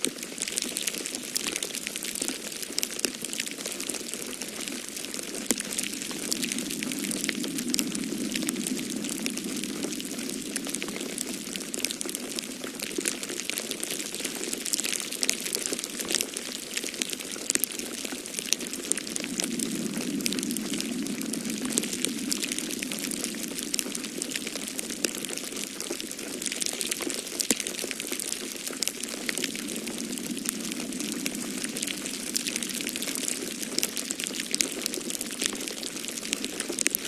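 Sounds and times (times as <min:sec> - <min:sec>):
wood fire crackling and popping: 0:00.0 - 0:37.0
low rushing storm wind: 0:03.9 - 0:15.0, 0:15.8 - 0:37.0.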